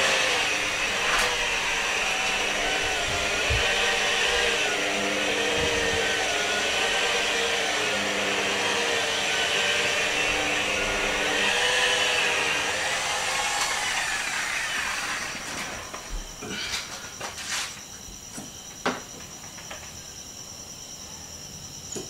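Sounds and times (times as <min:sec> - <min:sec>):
rotary polisher motor whine: 0:00.0 - 0:19.1.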